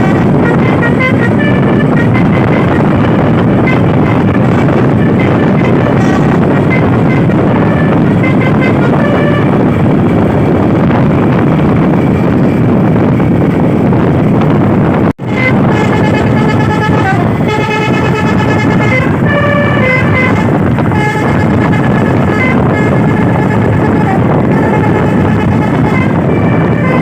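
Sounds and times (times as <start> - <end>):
multi-trumpet truck horn tune: 0.0 - 12.1, 15.2 - 27.0
engine and road noise: 0.0 - 27.0.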